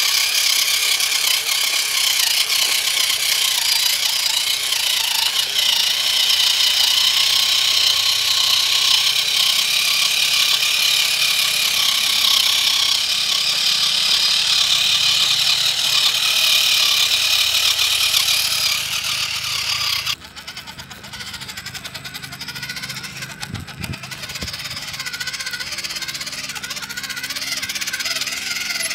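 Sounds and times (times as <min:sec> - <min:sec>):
electric motor whining: 0:00.0 - 0:28.9.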